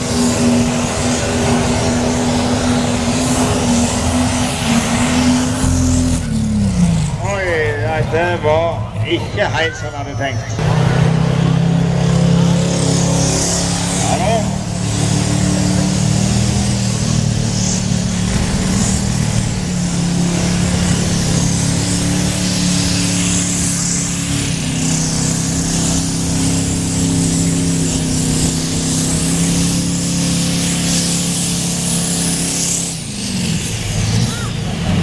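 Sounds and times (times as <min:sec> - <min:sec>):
tractor engine running: 0:00.0 - 0:09.4, 0:10.2 - 0:35.0.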